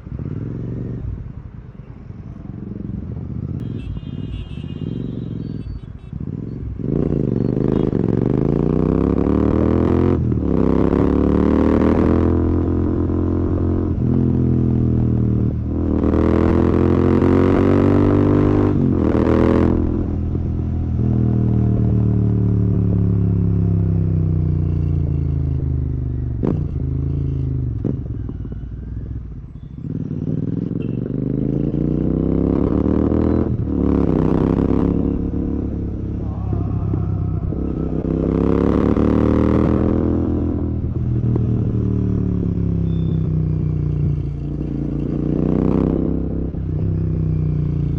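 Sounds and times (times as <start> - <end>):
motorcycle engine revving: 2.4 - 47.9.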